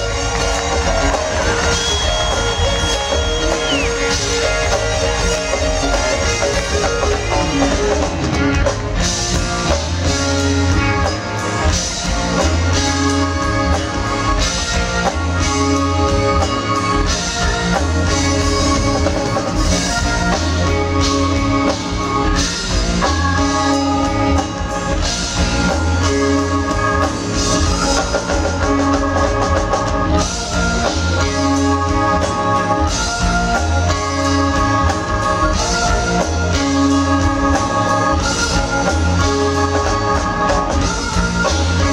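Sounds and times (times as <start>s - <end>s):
bass line: 0.0s - 41.9s
live band playing a groove: 0.0s - 41.9s.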